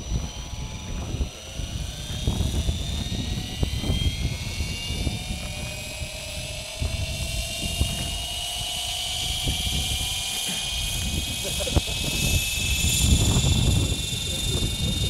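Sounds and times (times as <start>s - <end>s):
rc helicopter motor whine: 0.0s - 15.0s
wind rumble on microphone: 0.0s - 15.0s.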